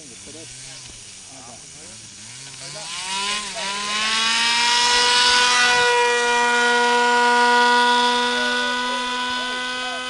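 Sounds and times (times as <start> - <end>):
model airplane motor drone: 0.0 - 10.0.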